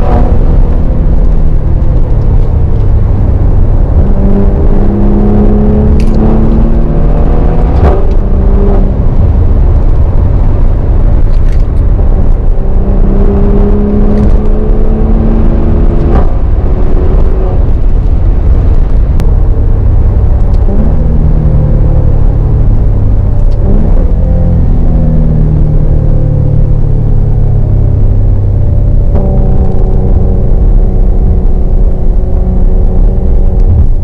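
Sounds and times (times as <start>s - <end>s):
car engine accelerating: 0.0s - 34.0s
heavy low rumble: 0.0s - 34.0s.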